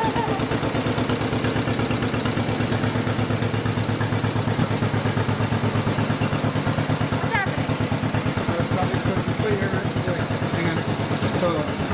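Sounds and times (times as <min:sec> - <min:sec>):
tractor engine pulsing exhaust: 0:00.0 - 0:11.9.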